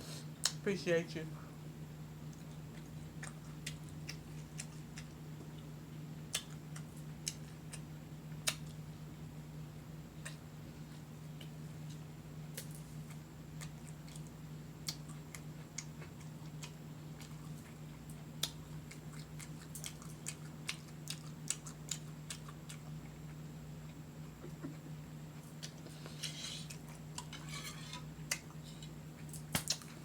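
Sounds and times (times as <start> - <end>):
steady low hum: 0.0 - 30.0
person chewing food: 2.3 - 8.8, 10.2 - 30.0.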